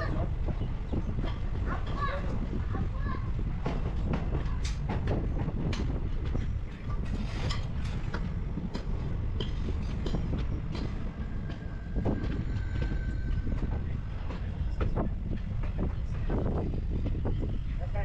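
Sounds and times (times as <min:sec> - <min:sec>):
train coach rumbling on track: 0:00.0 - 0:18.0.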